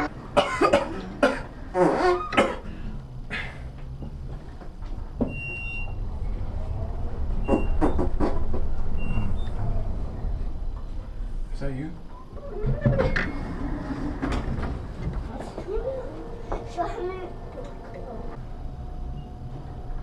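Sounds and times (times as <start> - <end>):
elevator hum: 0.0 - 20.0.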